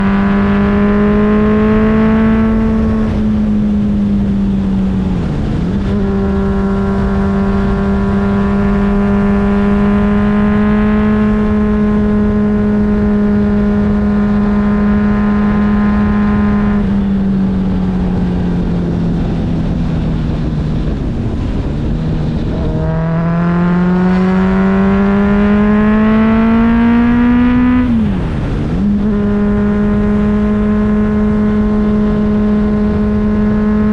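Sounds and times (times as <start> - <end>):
motorcycle engine: 0.0 - 33.9
wind noise rumble: 0.0 - 33.9.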